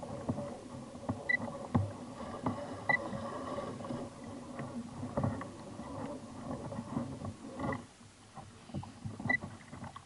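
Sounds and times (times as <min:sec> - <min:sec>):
boat knocks and creaks: 0:00.0 - 0:10.0
small waves slapping hull: 0:00.0 - 0:10.0.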